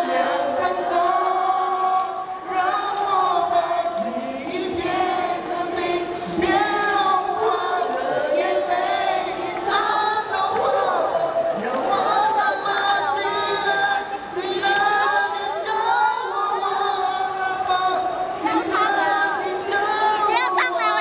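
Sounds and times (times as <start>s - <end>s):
man singing pop song over pa: 0.0s - 21.0s.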